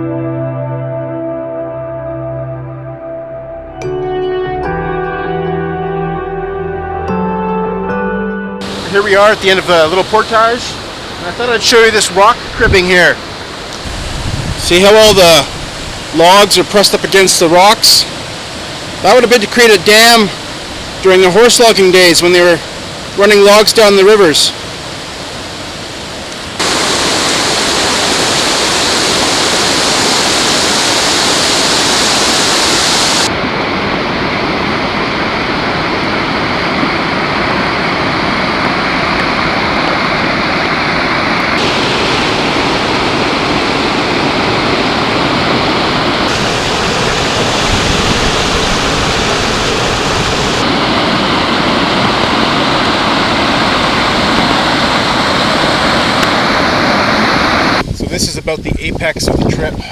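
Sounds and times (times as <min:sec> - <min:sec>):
river rapids roaring: 0:08.6 - 0:57.8.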